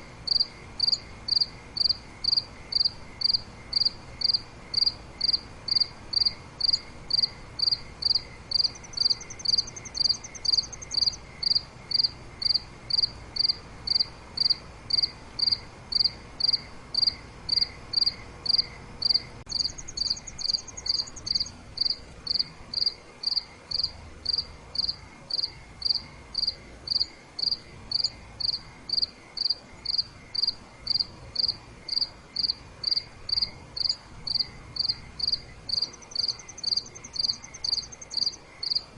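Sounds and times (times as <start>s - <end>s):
cricket chirping: 0.0s - 38.9s
high fast insect trill: 0.2s - 38.9s.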